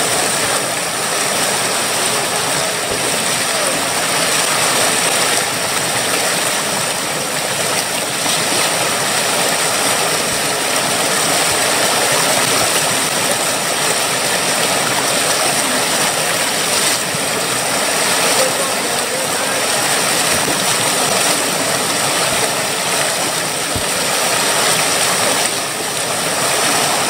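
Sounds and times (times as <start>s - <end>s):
rapids rushing over rocks: 0.0s - 27.0s.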